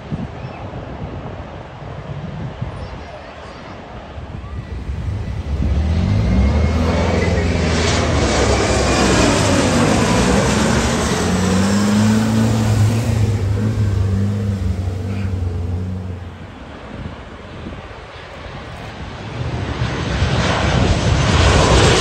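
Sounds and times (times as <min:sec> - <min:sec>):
jet engine whine: 0:04.1 - 0:22.0
jet roar passing overhead: 0:04.2 - 0:22.0.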